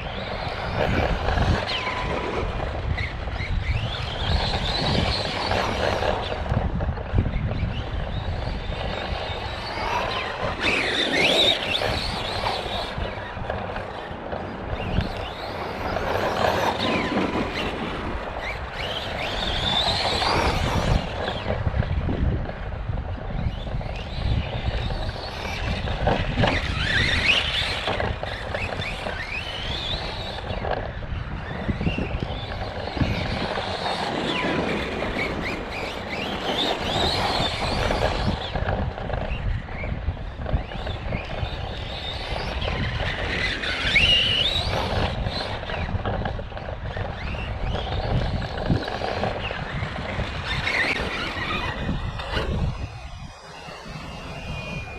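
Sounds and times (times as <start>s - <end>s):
toy truck motor whining: 3.0s - 6.6s, 7.2s - 21.9s, 23.5s - 54.9s.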